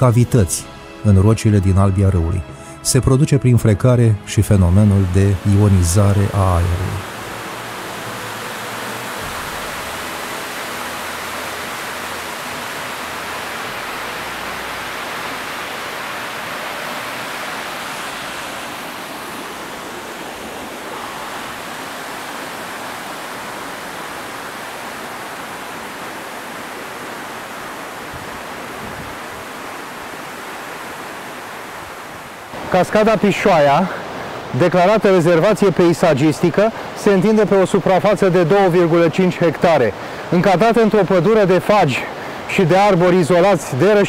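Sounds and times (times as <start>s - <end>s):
waterfall rushing: 4.2s - 44.0s.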